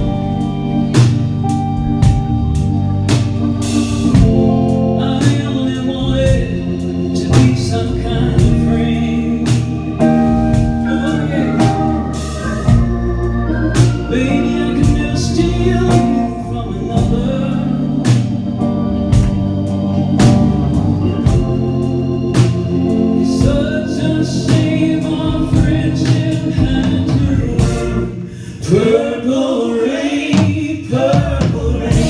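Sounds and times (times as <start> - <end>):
live band music: 0.0 - 32.0.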